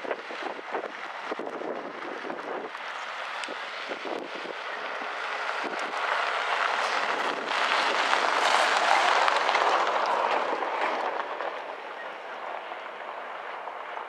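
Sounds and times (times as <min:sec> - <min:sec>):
van driving past on gravel: 0:00.2 - 0:14.0.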